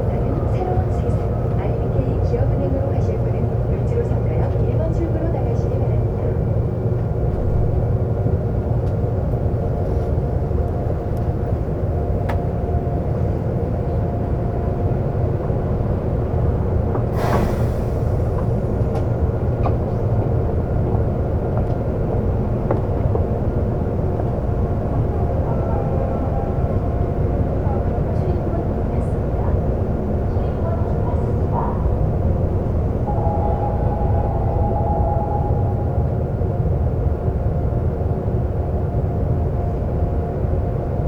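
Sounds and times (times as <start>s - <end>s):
subway train wheels rumbling: 0.0s - 41.0s.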